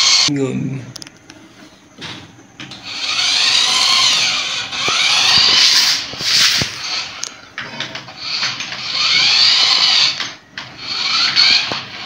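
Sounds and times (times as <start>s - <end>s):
toy car electric motor whining: 0.0s - 0.3s, 2.6s - 12.0s.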